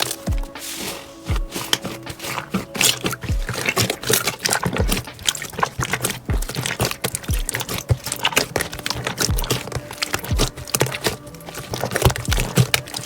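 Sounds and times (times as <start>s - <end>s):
slime squelching and popping: 0.0s - 13.0s.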